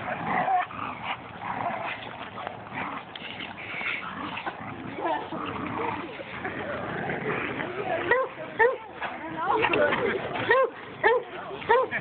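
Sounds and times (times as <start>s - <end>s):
bodies scuffling in dirt: 0.0s - 12.0s
dogs vocalizing: 0.0s - 12.0s.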